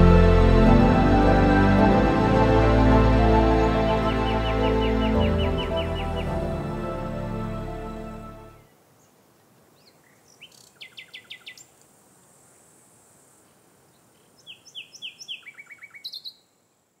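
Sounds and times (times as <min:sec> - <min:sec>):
songbird singing: 0:00.0 - 0:12.3, 0:13.2 - 0:16.8
faint steady hiss: 0:00.0 - 0:17.0.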